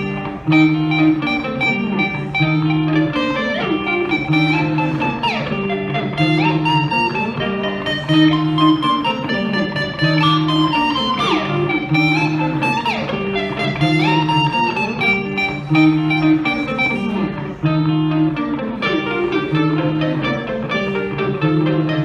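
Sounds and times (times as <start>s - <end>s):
plucked guitar music: 0.0s - 22.0s.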